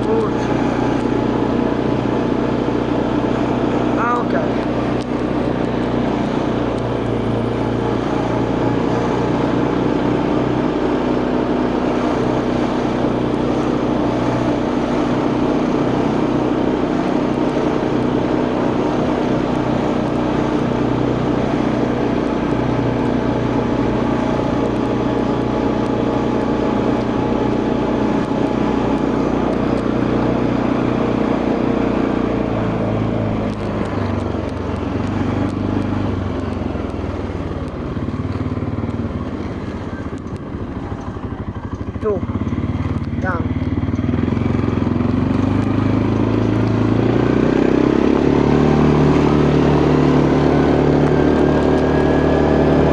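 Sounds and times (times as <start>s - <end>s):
quad bike engine running: 0.0s - 52.9s
road and wind noise: 0.0s - 52.9s.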